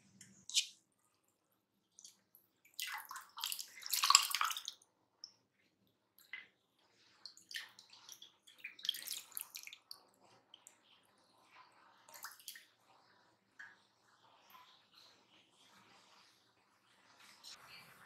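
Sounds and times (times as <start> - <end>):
liquid splashing and pouring: 1.9 - 5.5, 6.1 - 17.6.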